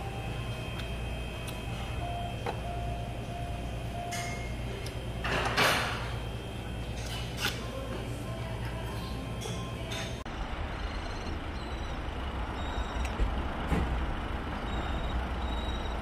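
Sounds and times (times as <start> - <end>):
restaurant dining room hum: 0.0 - 16.0.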